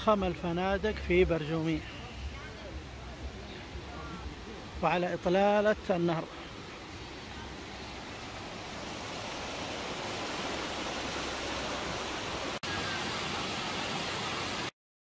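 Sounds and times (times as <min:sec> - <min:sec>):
river rushing over stones: 0:00.0 - 0:14.7.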